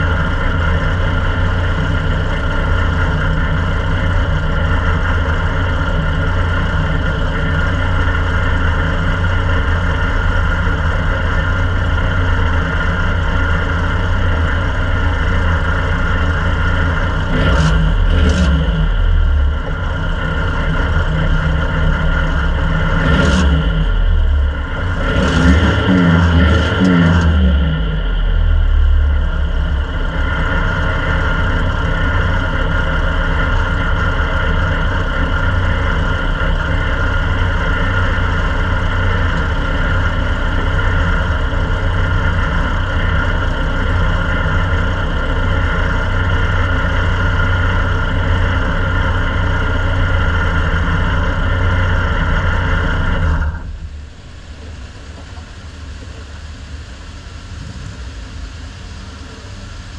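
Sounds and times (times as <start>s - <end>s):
race car engine idling: 0.0s - 59.9s.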